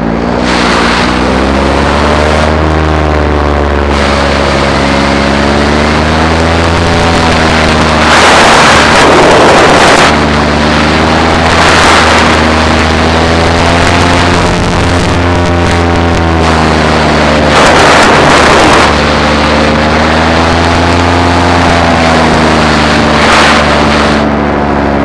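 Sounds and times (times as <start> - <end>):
paramotor engine droning: 0.0 - 25.0
wind rushing over microphone: 0.0 - 25.0.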